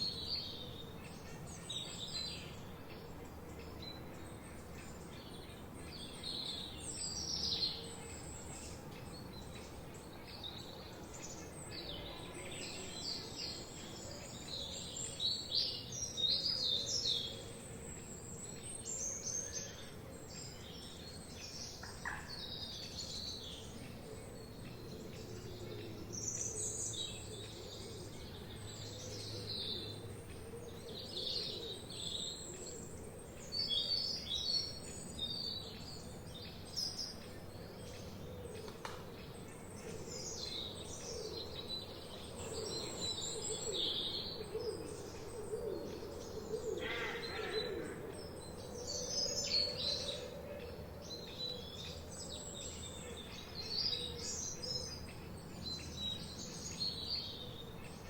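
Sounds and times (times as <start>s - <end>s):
forest birds chirping: 0.0s - 58.0s.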